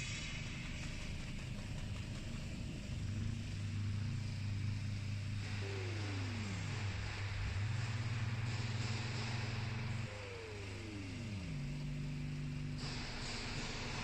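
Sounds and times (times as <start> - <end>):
vibrating screen machine hum: 0.0 - 14.0.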